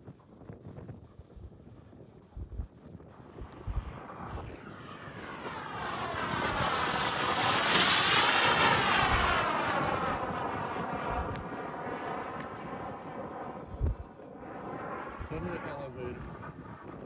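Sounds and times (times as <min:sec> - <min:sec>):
model jet airplane passing: 0:03.0 - 0:17.0.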